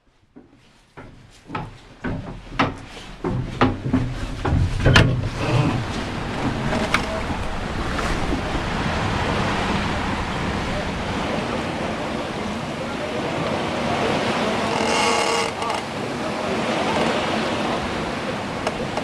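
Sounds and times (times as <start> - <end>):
boat knocking and creaking: 0.0 - 19.0
wind: 0.0 - 19.0
water rushing: 1.9 - 19.0.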